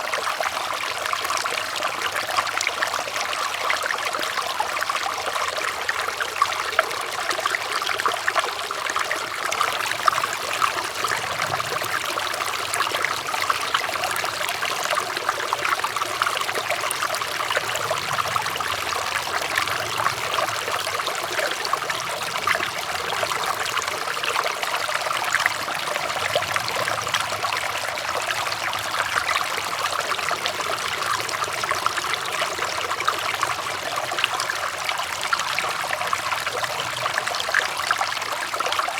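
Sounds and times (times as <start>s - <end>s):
river water flowing and splashing: 0.0s - 38.9s.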